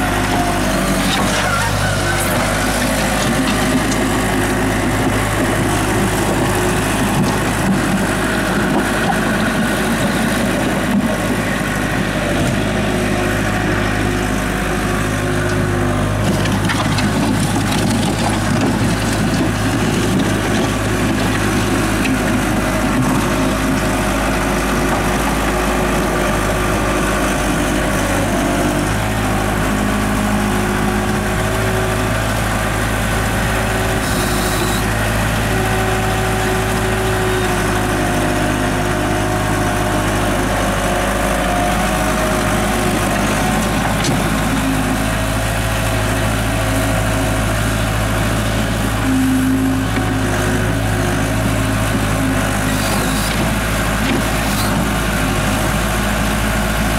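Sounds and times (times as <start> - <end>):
diesel engine under load: 0.0 - 56.9.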